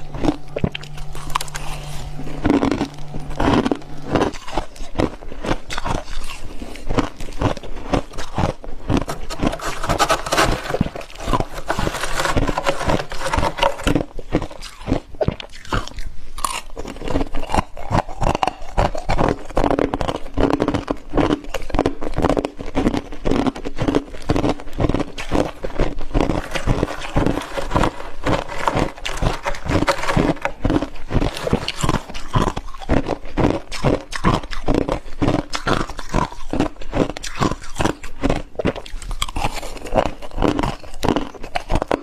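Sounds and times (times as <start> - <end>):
frost being chewed crunches: 0.0 - 42.0.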